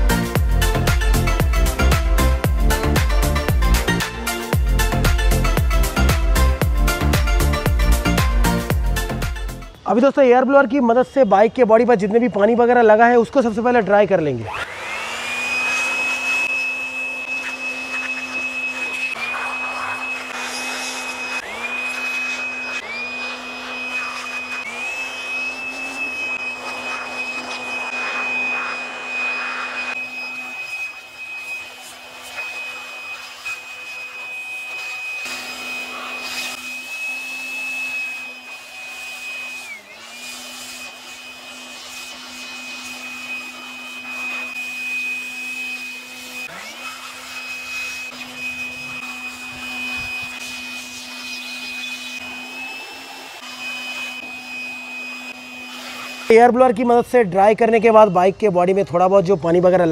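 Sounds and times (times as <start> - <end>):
electric air blower whine: 0.0 - 59.9.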